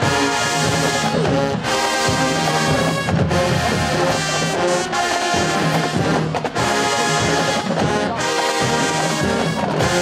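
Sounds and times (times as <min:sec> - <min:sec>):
marching band brass chords: 0:00.0 - 0:10.0.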